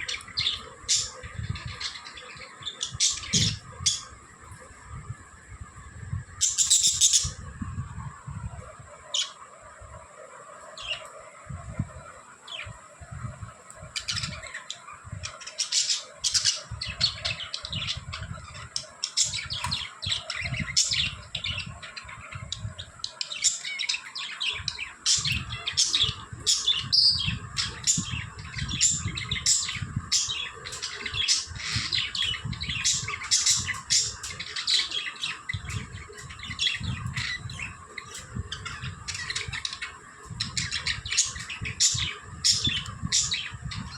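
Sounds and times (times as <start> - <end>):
budgerigars chirping and chattering: 0.0 - 4.2, 6.4 - 7.4, 13.9 - 43.9.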